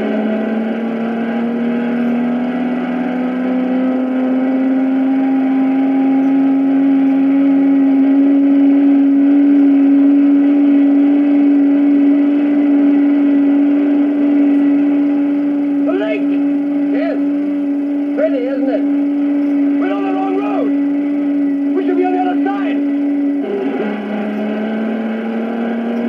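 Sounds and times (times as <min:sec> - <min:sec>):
racing car engine: 0:00.0 - 0:26.0.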